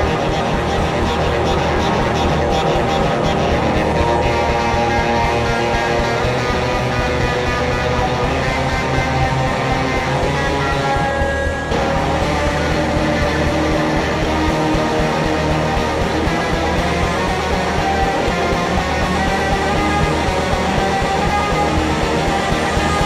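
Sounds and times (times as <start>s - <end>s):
bass guitar: 0.0s - 23.0s
drums: 0.0s - 23.0s
electric guitar: 0.0s - 23.0s.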